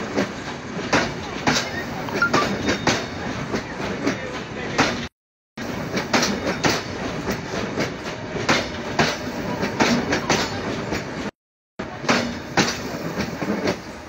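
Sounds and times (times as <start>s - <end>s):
train rumble: 0.0s - 14.0s
train wheels clacking on rail joints: 0.0s - 14.0s.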